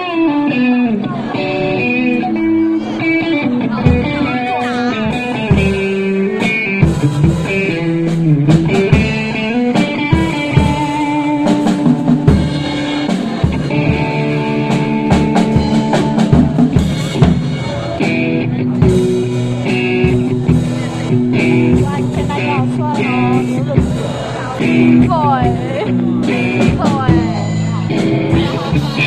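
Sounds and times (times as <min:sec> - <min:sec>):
drum kit: 0:00.0 - 0:29.0
electric guitar: 0:00.0 - 0:29.0.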